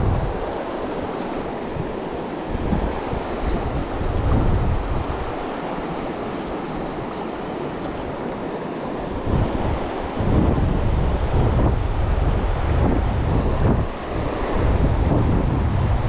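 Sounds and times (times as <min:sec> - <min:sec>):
river water rushing over rocks: 0:00.0 - 0:16.0
wind buffeting microphone: 0:00.0 - 0:16.0.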